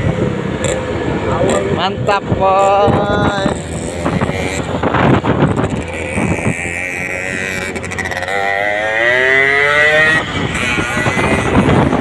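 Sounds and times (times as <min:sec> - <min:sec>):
motorcycle engine speeding up: 0:00.0 - 0:12.0
wind and road noise: 0:00.0 - 0:12.0.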